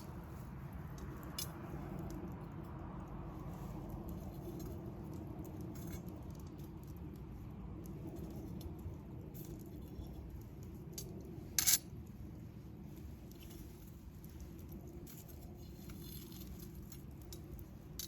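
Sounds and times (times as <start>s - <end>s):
campfire burning: 0.0s - 18.0s
fire crackling and popping: 0.0s - 18.0s.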